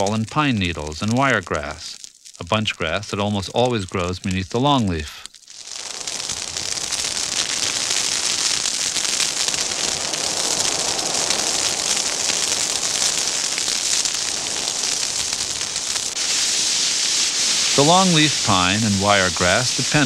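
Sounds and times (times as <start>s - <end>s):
ground fire crackling: 0.0s - 20.0s.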